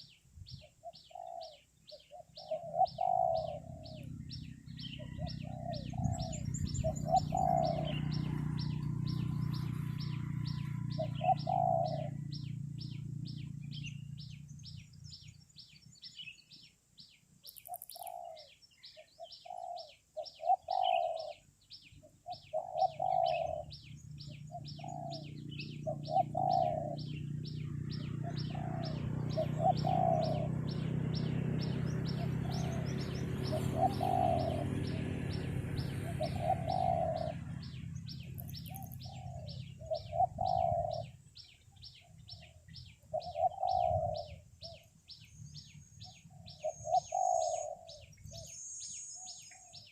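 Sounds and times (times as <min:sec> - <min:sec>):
doves cooing: 0:00.6 - 0:14.8, 0:17.5 - 0:48.6.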